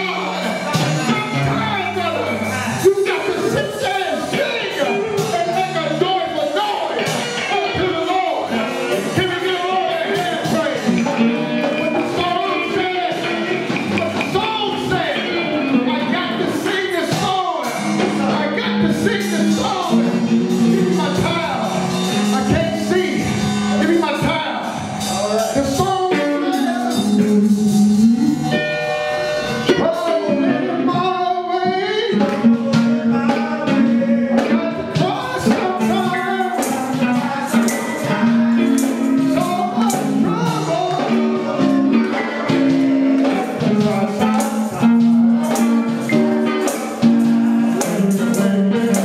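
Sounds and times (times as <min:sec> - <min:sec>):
person singing: 0:00.0 - 0:28.7, 0:29.4 - 0:49.0
guitar: 0:00.0 - 0:49.0
instrumental backing music: 0:00.0 - 0:49.0.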